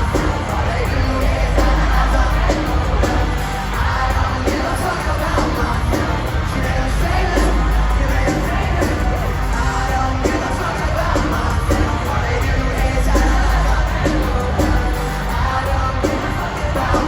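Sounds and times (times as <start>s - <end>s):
crowd yelling: 0.0s - 17.0s
live rock band: 0.0s - 17.0s
person singing: 0.0s - 17.0s.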